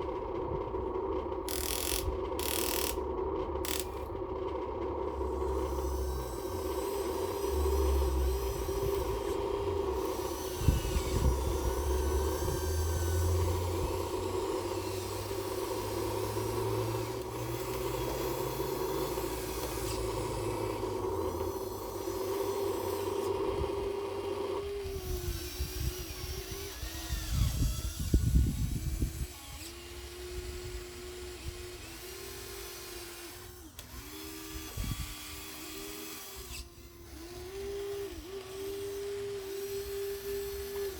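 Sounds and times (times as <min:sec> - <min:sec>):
small electric motors whining: 0:00.0 - 0:40.9.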